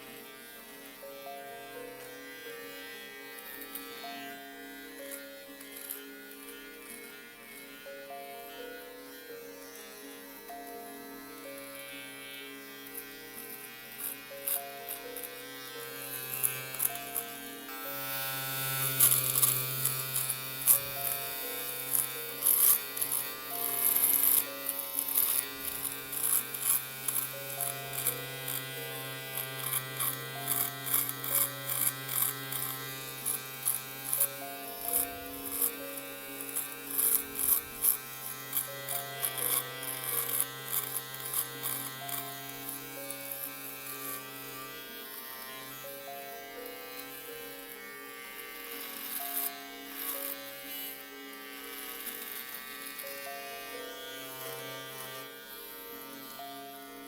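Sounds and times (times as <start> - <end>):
electric shaver buzzing: 0.0 - 57.0.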